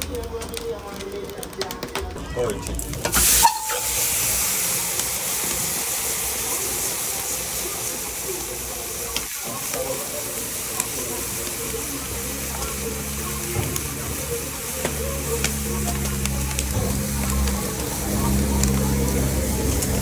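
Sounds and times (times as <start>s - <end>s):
food sizzling in hot oil: 2.7s - 20.0s.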